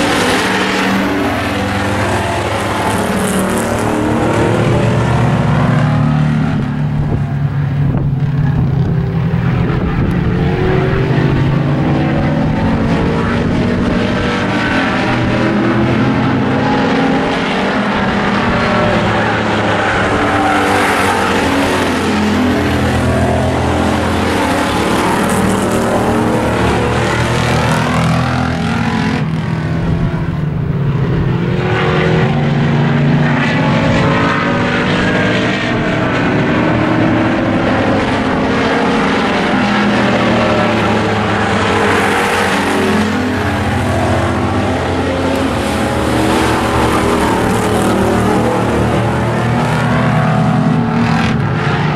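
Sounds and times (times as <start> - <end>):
race car engines passing by: 0.0 - 51.9.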